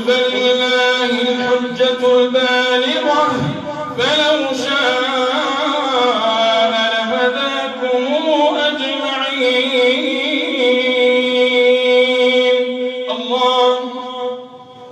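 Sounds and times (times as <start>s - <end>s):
man chanting a recitation: 0.0s - 14.9s.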